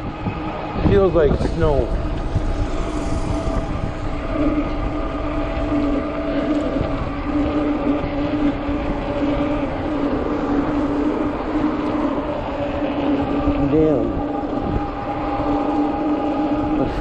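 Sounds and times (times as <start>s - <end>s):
e-bike whining hum: 0.0s - 17.0s
wind buffeting microphone: 0.0s - 17.0s.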